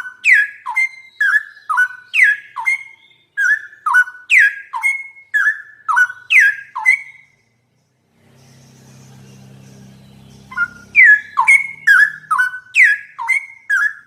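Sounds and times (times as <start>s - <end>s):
bird singing whistled notes: 0.0s - 14.0s.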